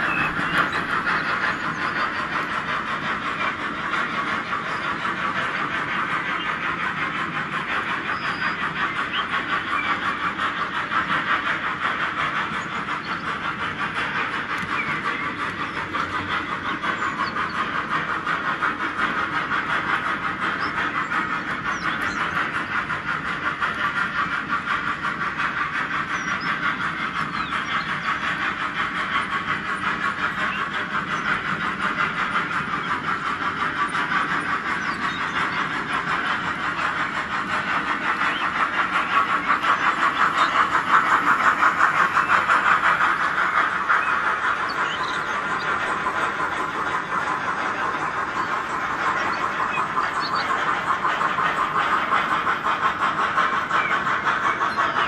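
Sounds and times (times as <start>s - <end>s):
model train rattling: 0.0s - 55.0s.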